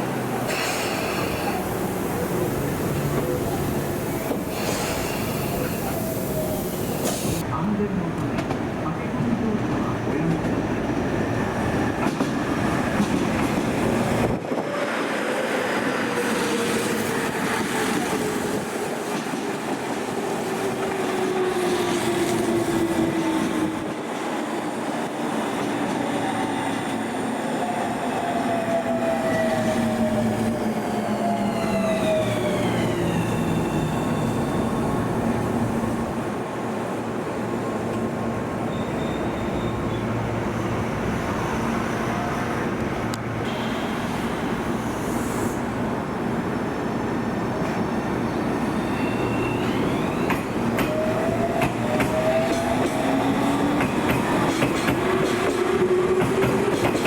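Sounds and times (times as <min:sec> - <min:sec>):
train cars running noise: 0:00.0 - 0:57.0.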